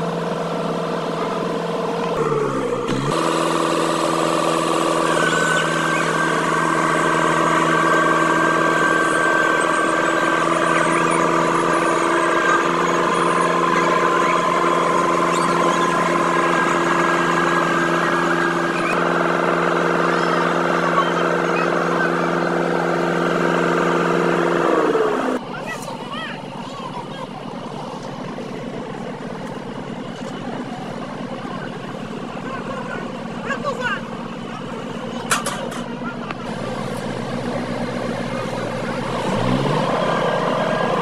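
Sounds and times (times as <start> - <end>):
paver diesel engine droning: 0.0 - 41.0.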